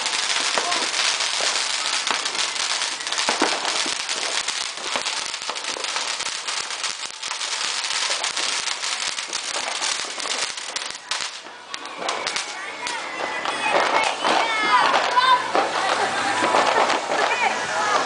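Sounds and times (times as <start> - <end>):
firecrackers crackling and popping: 0.0 - 18.0.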